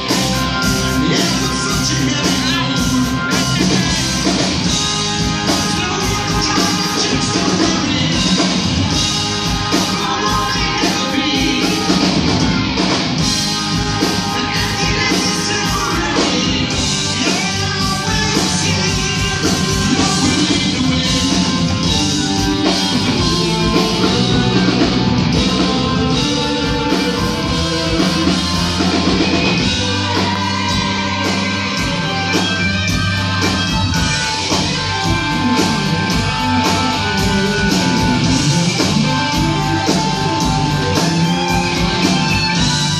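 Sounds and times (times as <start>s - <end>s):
live rock band playing: 0.0s - 42.9s
person singing: 0.0s - 42.9s.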